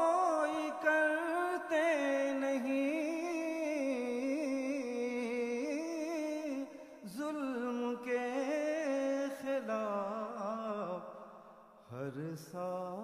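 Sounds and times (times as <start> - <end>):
man singing melodic recitation: 0.0 - 11.2, 11.8 - 13.0.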